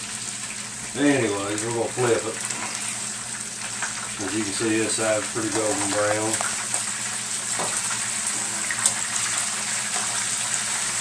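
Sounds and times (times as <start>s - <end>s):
oil sizzling in skillet: 0.0s - 11.0s.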